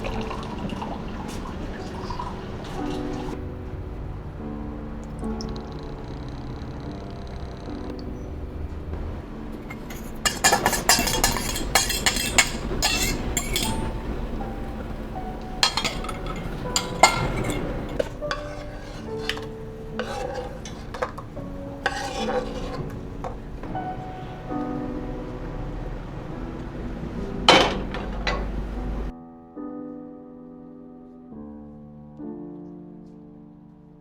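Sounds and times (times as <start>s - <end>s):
dishes clinking and clattering: 0.0s - 29.1s
faint background music: 0.0s - 34.0s.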